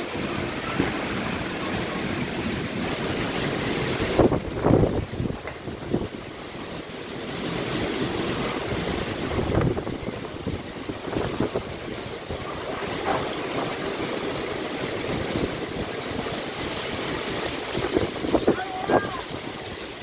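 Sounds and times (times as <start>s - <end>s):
gusting wind: 0.0s - 20.0s
heavy rain: 0.0s - 20.0s.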